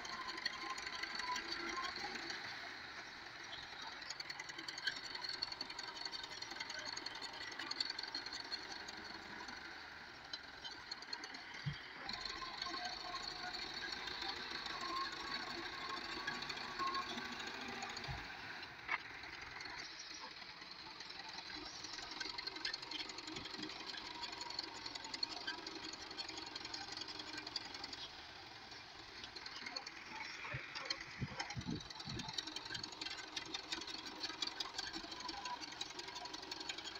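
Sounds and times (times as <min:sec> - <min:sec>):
tractor diesel engine clattering: 0:00.0 - 0:36.9.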